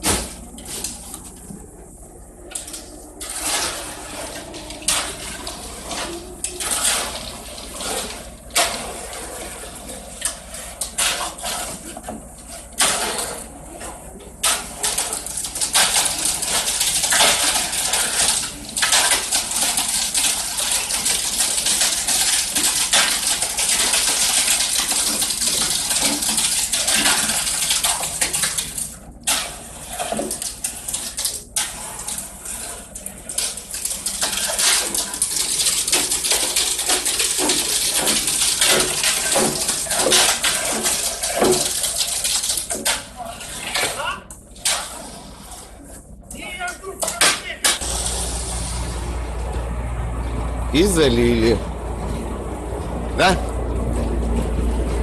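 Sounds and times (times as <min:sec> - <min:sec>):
wet concrete sloshing: 0:02.4 - 0:50.7
concrete pouring rush: 0:02.5 - 0:49.6.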